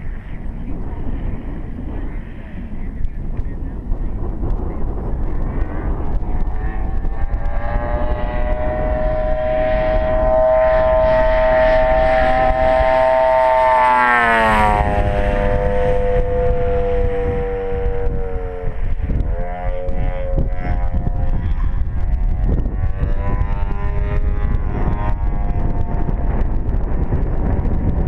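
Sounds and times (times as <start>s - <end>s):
model plane engine and propeller: 0.0s - 28.0s.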